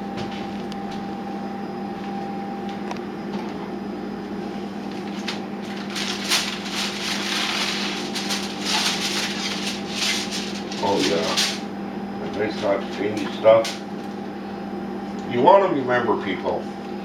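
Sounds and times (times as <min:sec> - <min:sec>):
oven electric hum: 0:00.0 - 0:17.0.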